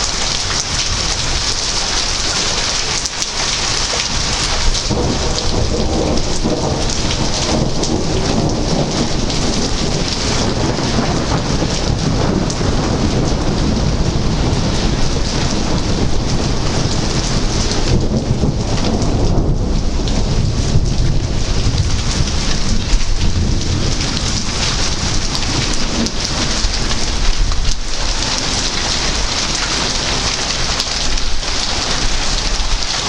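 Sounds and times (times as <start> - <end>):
heavy rain pouring: 0.0 - 33.0
low rumble of thunder: 0.0 - 33.0.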